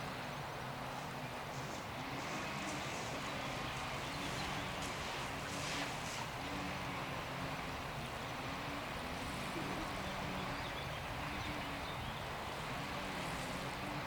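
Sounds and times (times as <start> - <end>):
boat motor droning: 0.0 - 14.0
water and wind hiss: 0.0 - 14.0.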